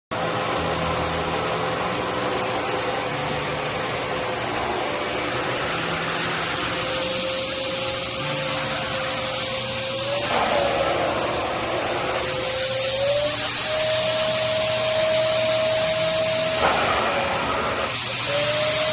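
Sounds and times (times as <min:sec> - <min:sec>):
vacuum cleaner running: 0:00.1 - 0:18.9.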